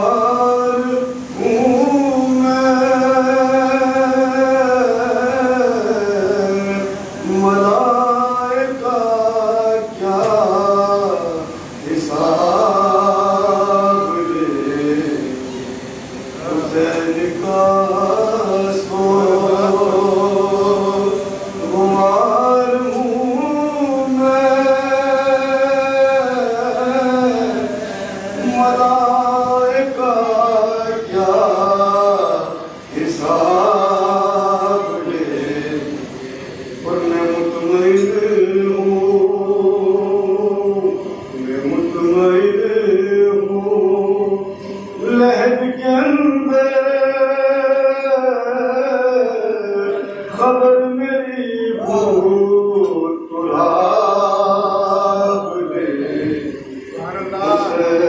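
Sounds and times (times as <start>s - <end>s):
man singing into microphone: 0.0s - 15.7s, 16.4s - 58.0s
men chanting a lament: 0.0s - 15.7s, 16.4s - 58.0s.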